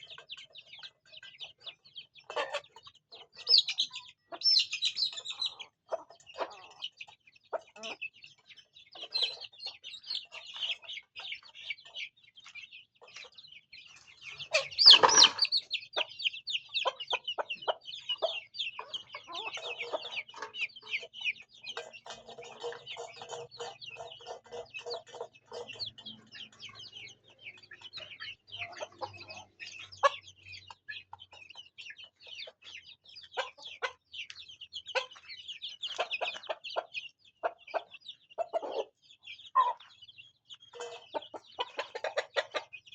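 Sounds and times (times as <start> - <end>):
hens clucking: 0.0 - 40.1, 40.7 - 42.9
chicks peeping: 0.0 - 42.9.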